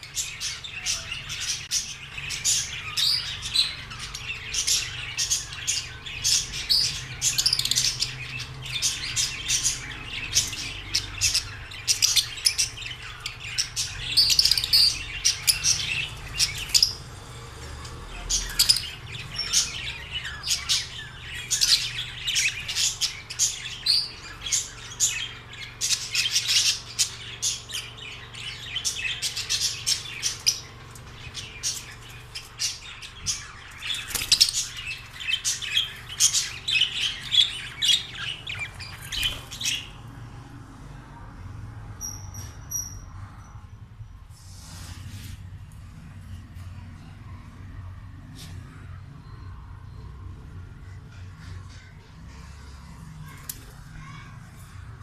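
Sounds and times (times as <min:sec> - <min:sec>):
parrots chirping and squawking: 0:00.0 - 0:40.4, 0:50.8 - 0:55.0.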